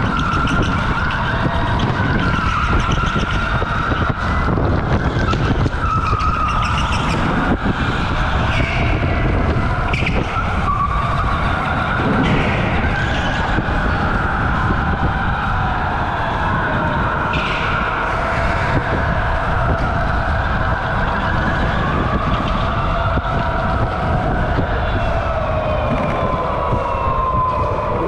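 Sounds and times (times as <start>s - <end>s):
constant rumble: 0.0s - 28.0s.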